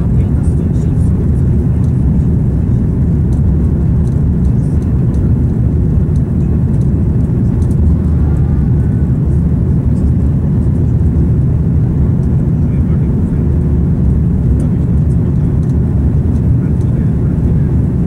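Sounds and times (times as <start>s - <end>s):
jet engines at climb power: 0.0s - 18.0s.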